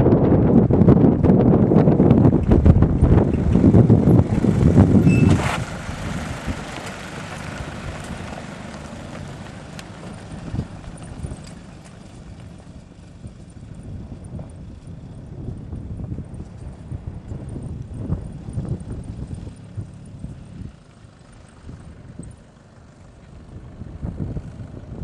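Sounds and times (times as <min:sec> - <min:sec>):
vehicle towing trailer driving past: 0:00.3 - 0:25.0.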